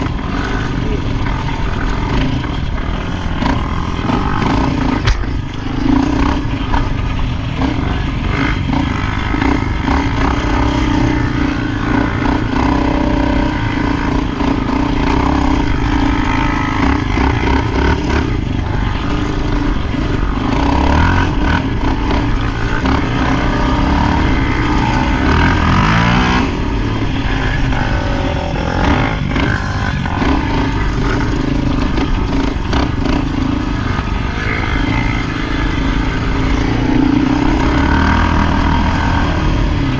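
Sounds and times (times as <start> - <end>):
atv engine running: 0.0 - 39.9
wind: 0.0 - 39.9.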